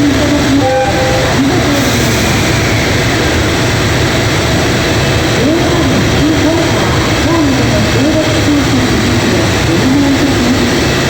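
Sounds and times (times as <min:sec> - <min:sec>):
electric locomotive running: 0:00.0 - 0:11.0.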